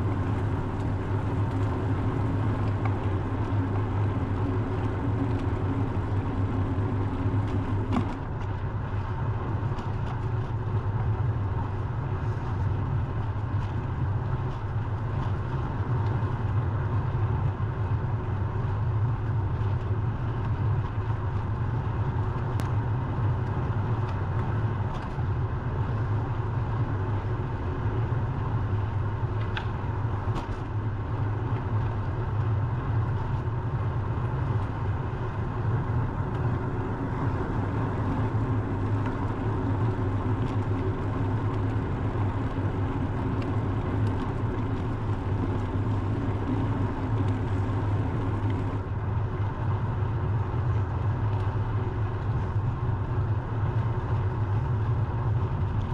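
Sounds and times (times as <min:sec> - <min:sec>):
road traffic rumble: 0:00.0 - 0:55.9.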